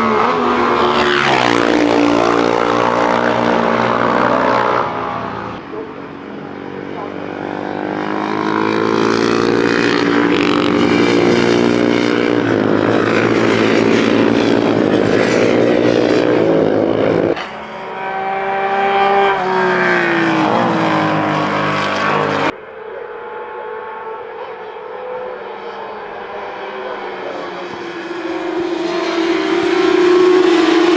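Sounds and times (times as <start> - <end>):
motorcycle passing by: 0.0 - 30.9
racing motorcycle engines revving: 0.0 - 30.9.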